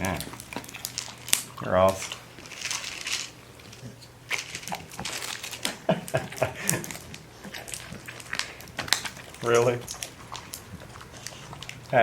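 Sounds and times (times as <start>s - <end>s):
cereal bag crackling: 0.0s - 12.0s
chewing crunchy food: 0.0s - 12.0s.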